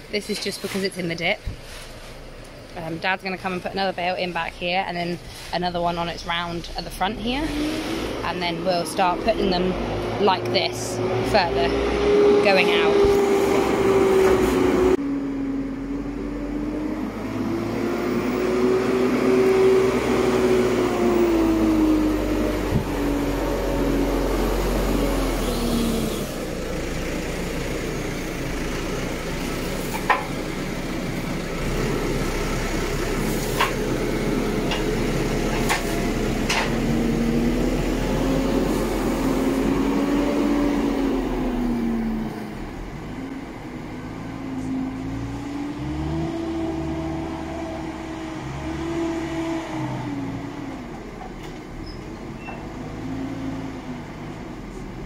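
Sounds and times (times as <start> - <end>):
tractor engine running: 0.0 - 44.6.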